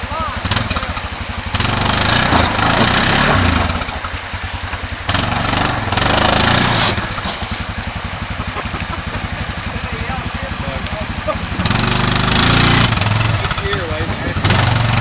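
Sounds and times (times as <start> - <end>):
engine revving under load: 0.0 - 15.0.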